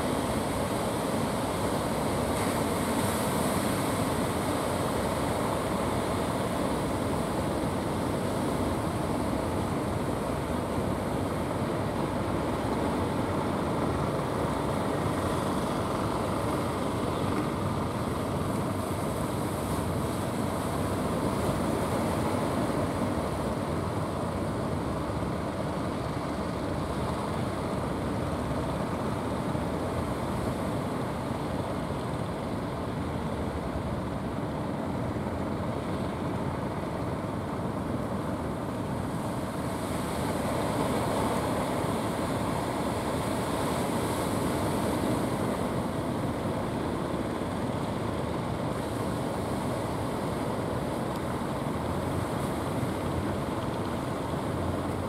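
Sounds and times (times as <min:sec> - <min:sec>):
sea surf: 0:00.0 - 0:55.0
wind: 0:00.0 - 0:55.0.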